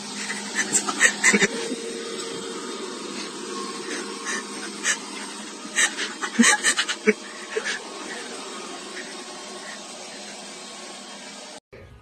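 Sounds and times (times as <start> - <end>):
robot vacuum motor hum: 0.0 - 11.6.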